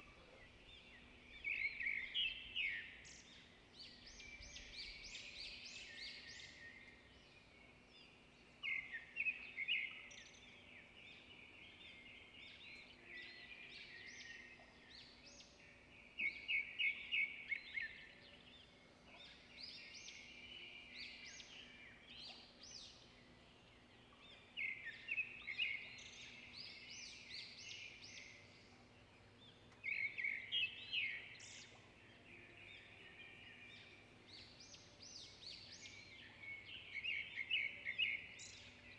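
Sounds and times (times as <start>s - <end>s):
birds singing and chirping: 0.0s - 38.9s.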